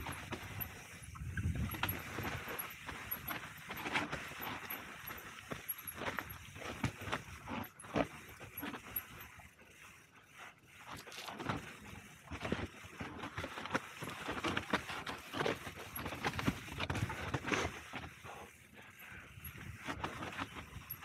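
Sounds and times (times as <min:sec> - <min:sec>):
bike knocking and rattling: 0:00.0 - 0:09.8, 0:10.7 - 0:21.0.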